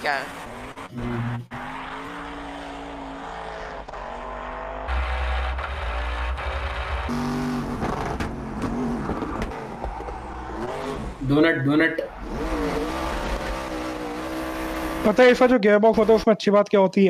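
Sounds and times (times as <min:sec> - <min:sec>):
race car engine revving: 0:00.0 - 0:16.2.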